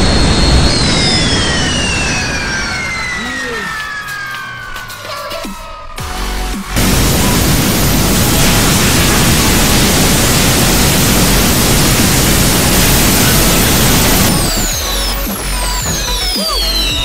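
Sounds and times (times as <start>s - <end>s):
small jet turbines rushing: 0.0s - 17.0s.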